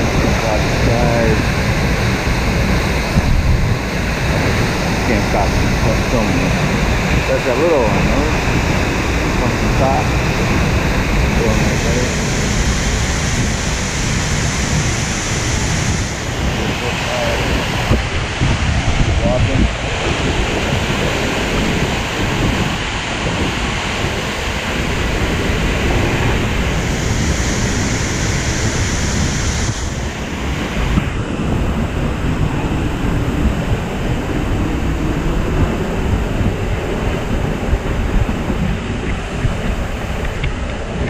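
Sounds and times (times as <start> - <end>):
waterfall rushing: 0.0 - 41.0
wind buffeting microphone: 0.0 - 41.0.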